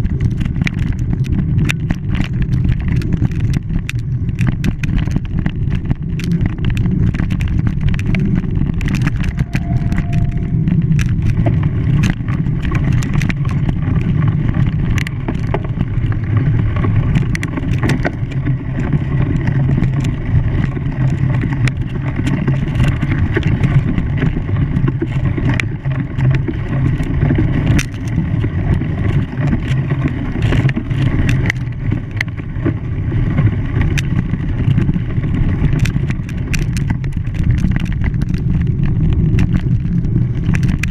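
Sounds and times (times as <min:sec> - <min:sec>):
engine running: 0:00.0 - 0:40.9
small clicks and knocks: 0:00.0 - 0:40.9.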